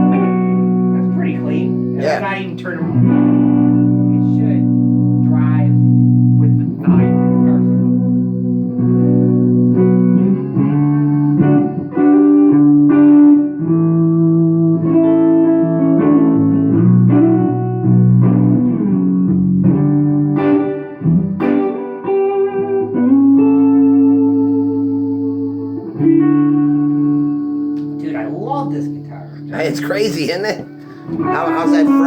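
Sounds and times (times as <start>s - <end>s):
electric guitar notes and chords: 0.0s - 32.0s.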